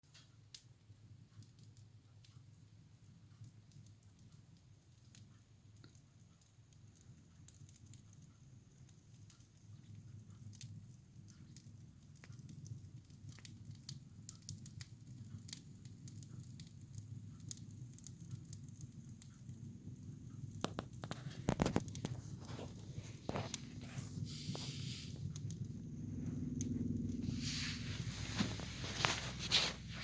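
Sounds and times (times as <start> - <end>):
low steady fire rumble: 0.0 - 30.0
wood fire crackling: 0.0 - 30.0.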